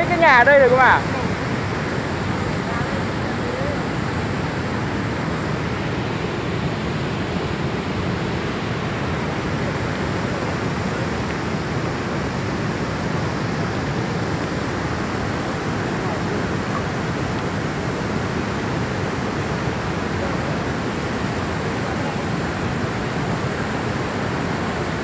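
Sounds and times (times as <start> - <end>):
flood torrent rushing: 0.0 - 25.0.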